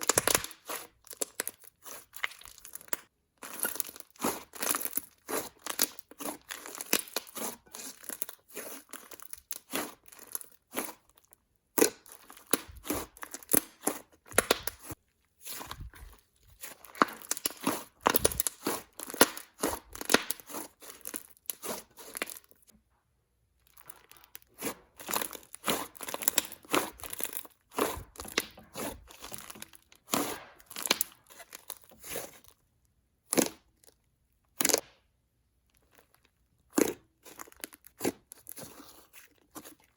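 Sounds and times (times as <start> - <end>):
slime crackling and popping: 0.0 - 22.7, 23.7 - 32.5, 33.2 - 33.8, 34.5 - 35.0
clay slime squished by hand: 0.0 - 22.8, 23.5 - 39.9.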